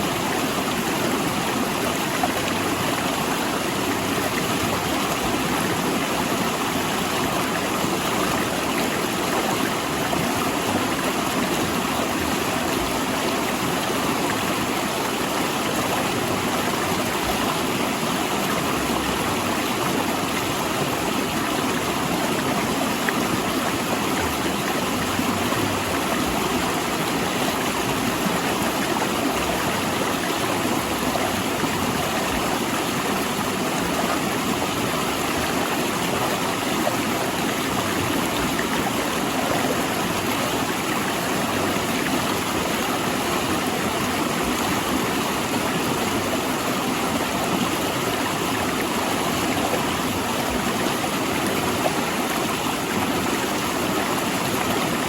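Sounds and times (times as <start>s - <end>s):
river rushing over boulders: 0.0s - 55.0s.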